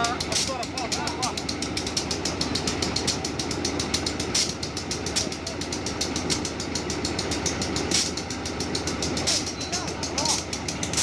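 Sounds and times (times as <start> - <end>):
engine idling with clatter: 0.0 - 11.0.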